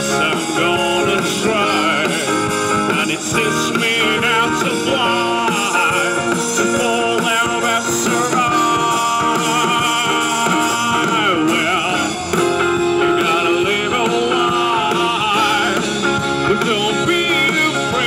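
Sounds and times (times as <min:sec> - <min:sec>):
drums: 0:00.0 - 0:18.0
electric guitars: 0:00.0 - 0:18.0
keyboard: 0:00.0 - 0:18.0.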